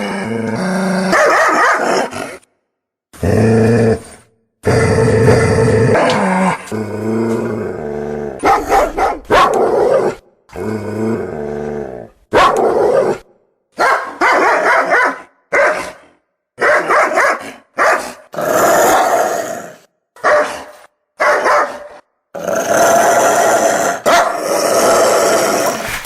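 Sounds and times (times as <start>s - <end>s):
dog barking and growling: 0.0s - 2.5s, 3.2s - 19.5s, 20.2s - 26.0s.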